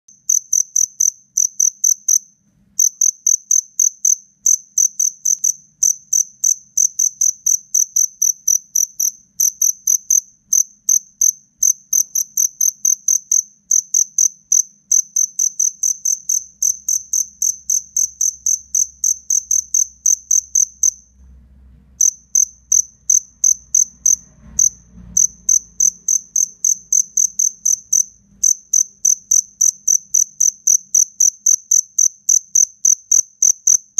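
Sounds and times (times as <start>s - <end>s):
crickets chirping: 0.1s - 21.2s, 22.0s - 33.9s.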